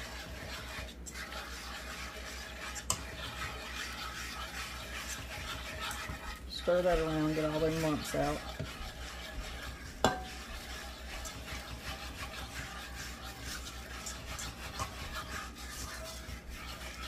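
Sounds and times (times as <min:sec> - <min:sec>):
whisk scraping sauce in skillet: 0:00.0 - 0:17.0.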